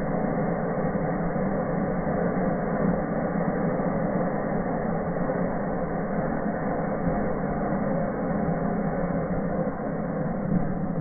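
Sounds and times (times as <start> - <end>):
firework fountains rushing: 0.0 - 11.0.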